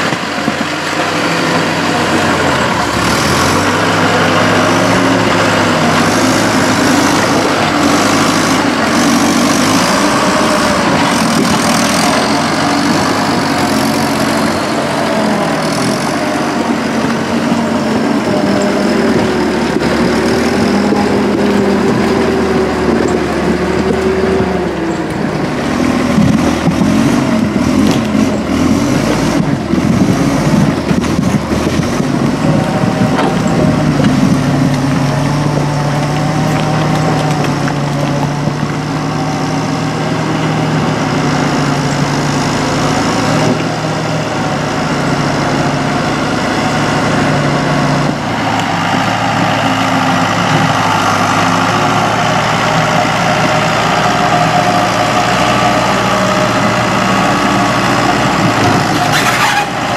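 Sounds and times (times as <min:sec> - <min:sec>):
heavy vehicle engine running: 0:00.0 - 0:59.9.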